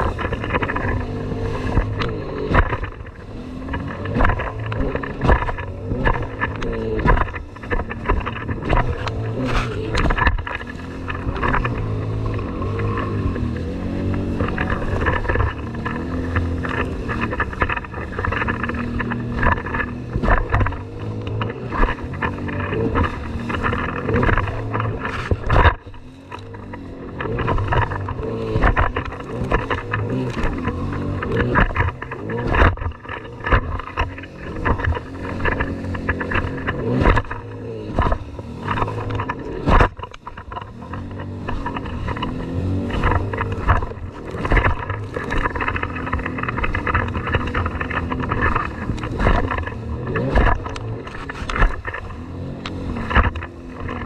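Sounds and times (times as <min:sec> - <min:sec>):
hull thudding on waves: 0:00.0 - 0:54.0
jet ski engine: 0:00.0 - 0:54.0.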